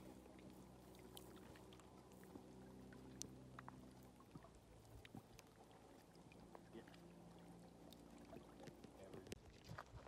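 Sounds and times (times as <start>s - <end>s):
lake water lapping among rocks: 0.0s - 10.0s.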